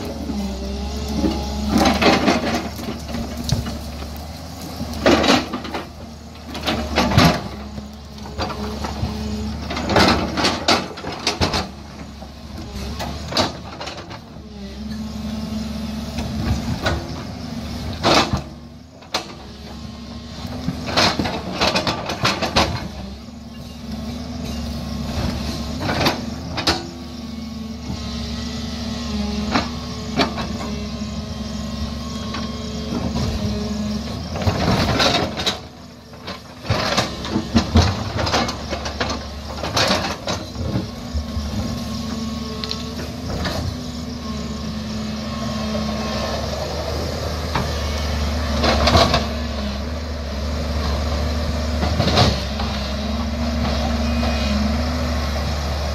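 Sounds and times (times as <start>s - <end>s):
diesel engine under load: 0.0s - 55.9s.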